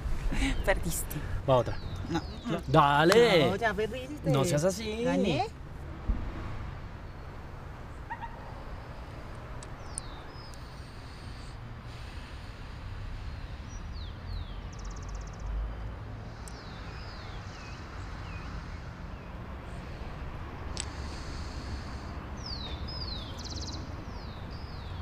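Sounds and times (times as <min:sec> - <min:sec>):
small birds chirping: 0:00.3 - 0:05.4, 0:07.0 - 0:25.0.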